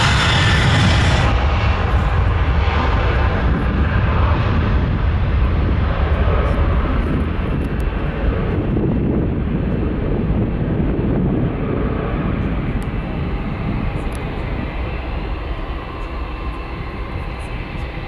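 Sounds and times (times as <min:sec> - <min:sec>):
jet engines rumbling at takeoff: 0:00.0 - 0:18.0.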